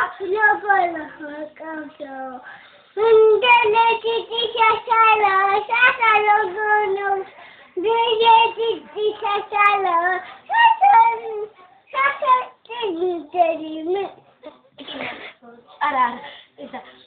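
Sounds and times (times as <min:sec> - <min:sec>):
girl singing: 0:00.0 - 0:14.2.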